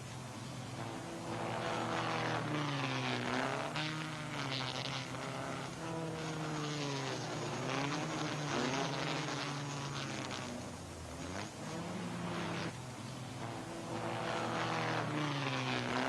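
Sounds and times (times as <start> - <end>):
racing car engines buzzing: 0.0 - 16.0.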